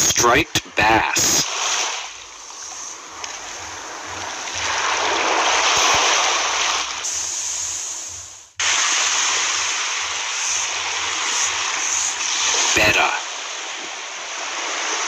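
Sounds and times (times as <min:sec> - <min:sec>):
rushing splashing water: 0:00.0 - 0:15.0.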